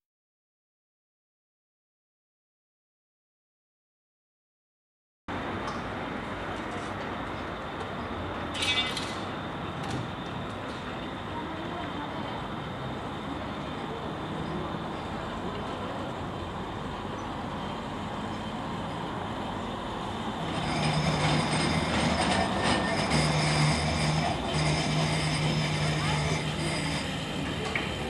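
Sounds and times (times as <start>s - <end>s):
tram rumble: 5.3s - 28.0s.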